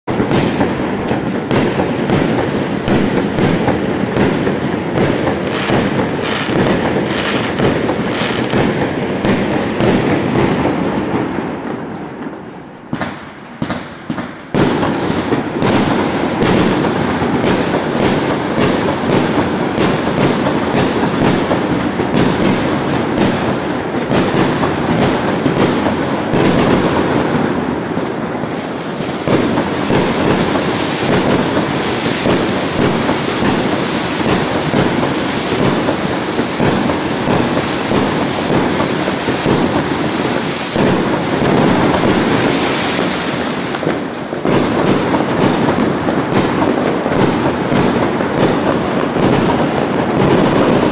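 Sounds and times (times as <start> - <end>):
firecrackers crackling: 0.0 - 50.9.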